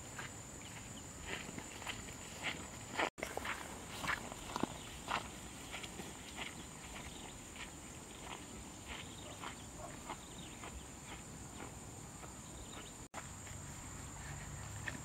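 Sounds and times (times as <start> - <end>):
footsteps through dry grass: 0.0 - 15.0
high insect drone: 0.0 - 15.0.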